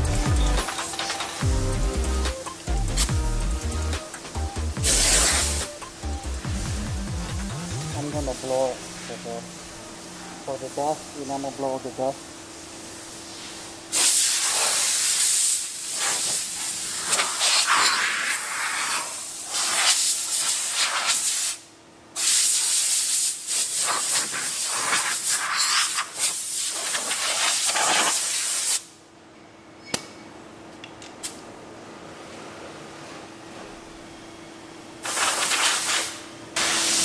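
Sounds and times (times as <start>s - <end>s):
compressed air hissing: 0.0s - 11.8s, 12.4s - 21.6s, 22.2s - 28.9s, 35.0s - 37.0s.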